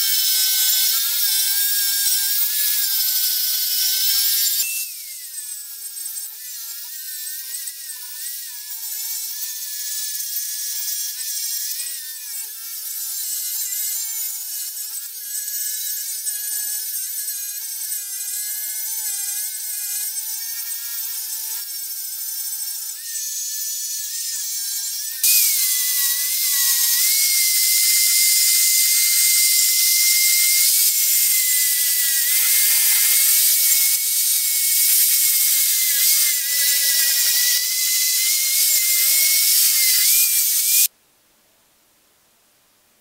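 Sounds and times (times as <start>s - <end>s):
angle grinder sanding metal: 0.0s - 40.9s.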